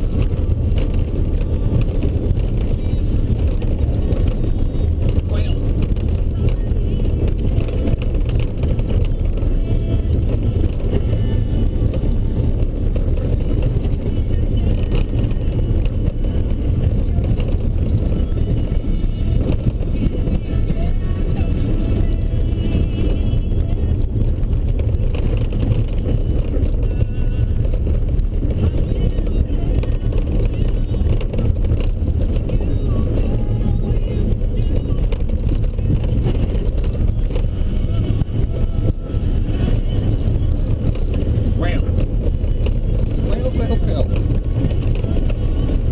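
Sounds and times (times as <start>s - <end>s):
engine rumble: 0.0s - 45.9s
pickup truck driving off-road: 0.0s - 45.9s.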